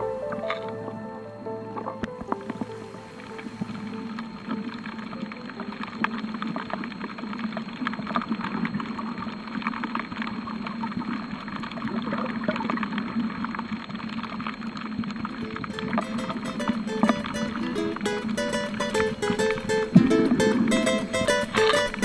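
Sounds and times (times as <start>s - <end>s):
low underwater hum: 0.0s - 22.0s
crackling clicks: 1.7s - 22.0s.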